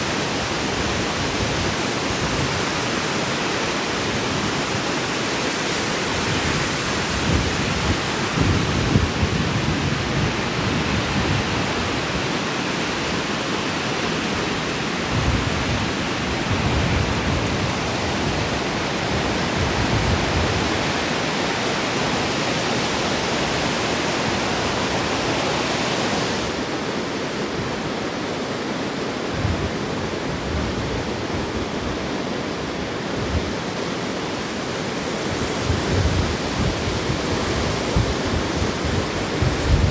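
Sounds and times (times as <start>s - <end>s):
rain and wind hiss: 0.0s - 39.9s
wind gusts buffeting microphone: 0.0s - 39.9s.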